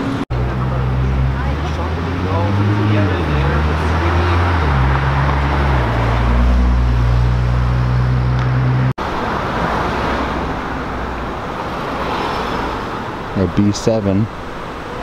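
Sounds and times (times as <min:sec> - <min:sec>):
car engine accelerating: 0:00.0 - 0:12.8
street traffic noise: 0:00.0 - 0:15.0.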